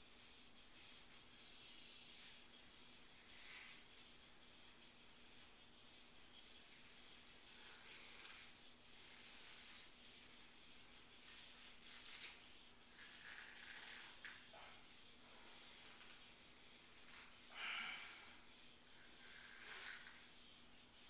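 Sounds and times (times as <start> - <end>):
soft hissing rustles: 0.0 - 21.0.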